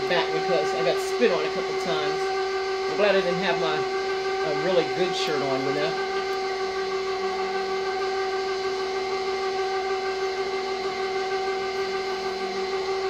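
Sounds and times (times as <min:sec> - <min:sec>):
meat grinder motor whine: 0:00.0 - 0:13.0.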